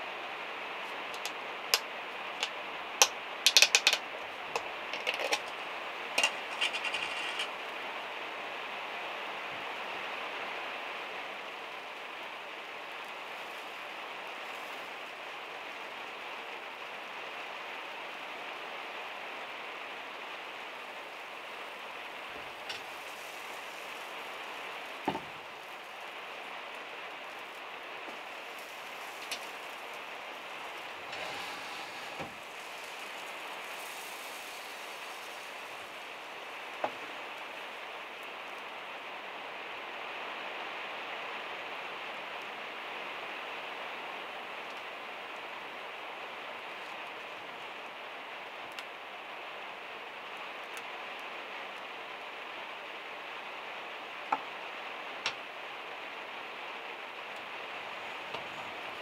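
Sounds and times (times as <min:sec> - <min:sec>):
rain on metal roof: 0:00.0 - 0:59.0.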